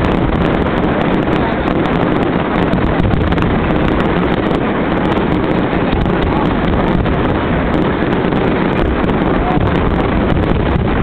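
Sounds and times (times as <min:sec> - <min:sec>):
fireworks rumbling and crackling: 0:00.0 - 0:11.0
wind buffeting microphone: 0:00.0 - 0:11.0.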